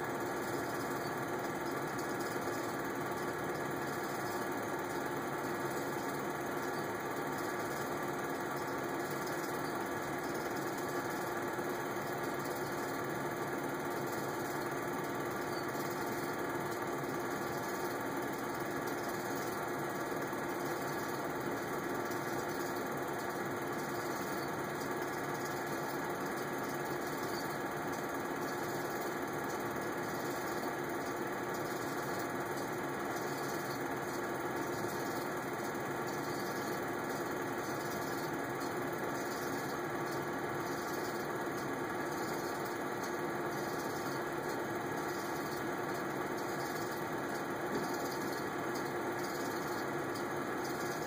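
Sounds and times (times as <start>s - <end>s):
film projector running: 0.0s - 51.0s.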